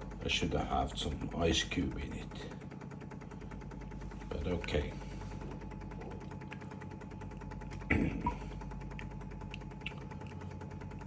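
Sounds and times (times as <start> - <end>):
coffee machine pump pulsing: 0.0 - 11.0
steady hum: 0.0 - 11.0.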